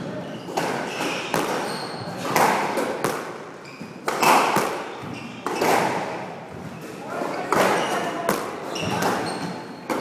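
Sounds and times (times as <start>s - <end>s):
squash ball smacks echoing: 0.4s - 6.8s, 7.5s - 9.3s.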